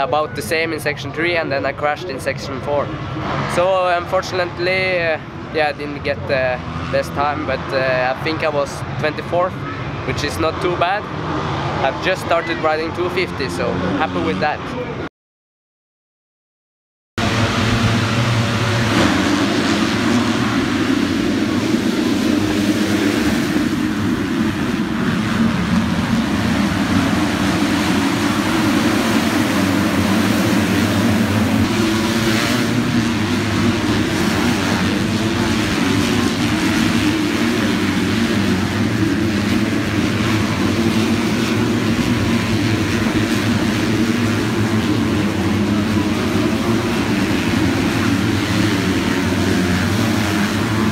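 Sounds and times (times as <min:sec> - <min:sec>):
engine drone: 0:00.0 - 0:15.0, 0:17.2 - 0:50.9.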